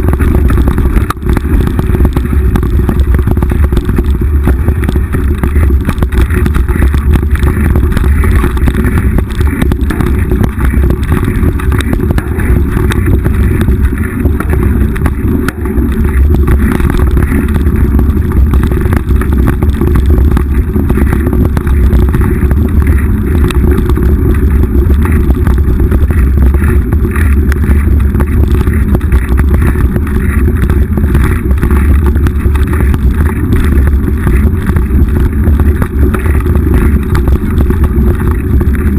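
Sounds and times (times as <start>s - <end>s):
bike rattling and clicking: 0.0s - 38.9s
wind buffeting and tyre noise: 0.0s - 38.9s.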